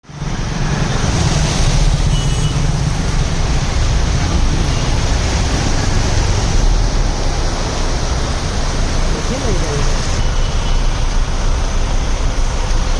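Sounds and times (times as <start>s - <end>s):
traffic on wet roads: 0.0s - 12.9s.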